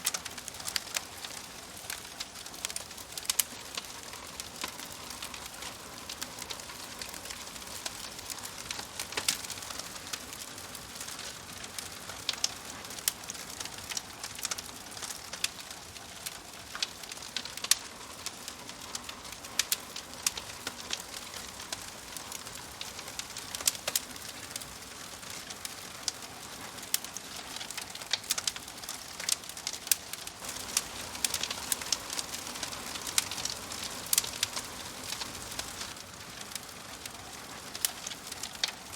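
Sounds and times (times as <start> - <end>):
logs crackling and popping: 0.0 - 38.9
wood fire hissing: 0.0 - 38.9.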